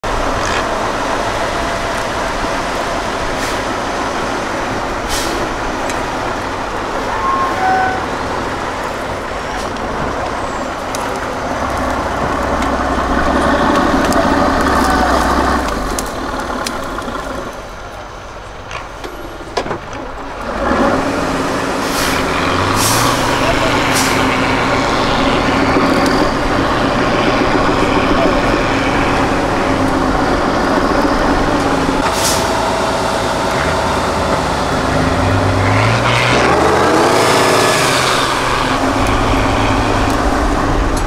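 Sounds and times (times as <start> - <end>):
diesel truck engine under load: 0.0 - 41.0.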